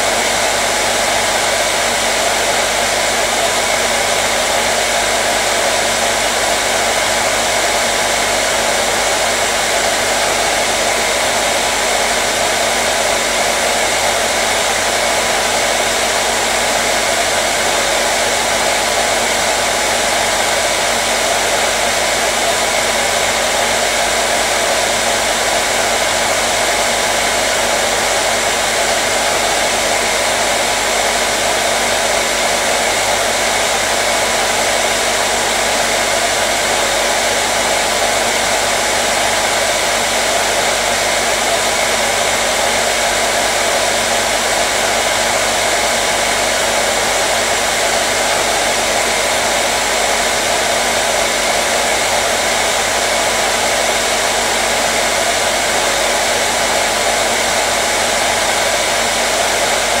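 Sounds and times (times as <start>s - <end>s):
hair dryer blowing: 0.0s - 60.0s.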